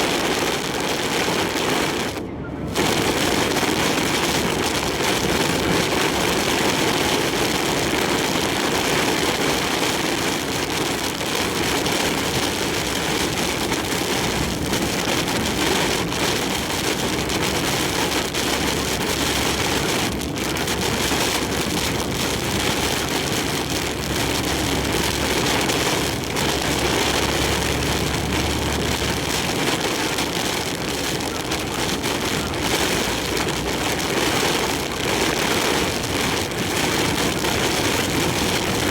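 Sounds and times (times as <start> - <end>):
heavy rain and strong wind: 0.0 - 38.9.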